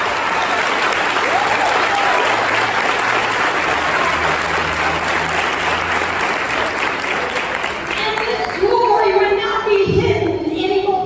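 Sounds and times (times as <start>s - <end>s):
congregation applauding: 0.0s - 9.2s.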